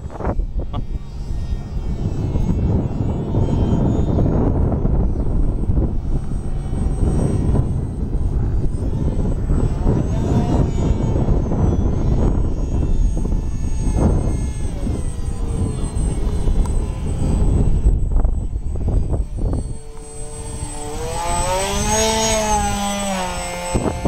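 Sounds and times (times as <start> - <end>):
model plane motor whine: 0.0 - 24.0
wind rumble on microphone: 0.0 - 24.0.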